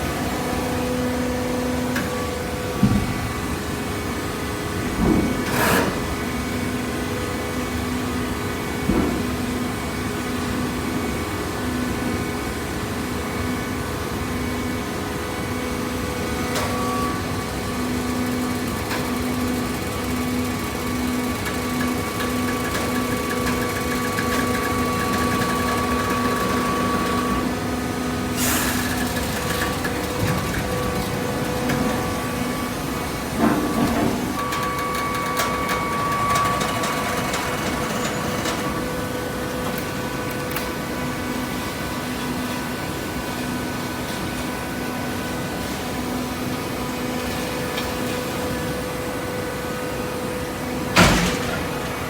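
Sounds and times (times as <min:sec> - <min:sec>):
baler motor and pump humming: 0:00.0 - 0:52.0.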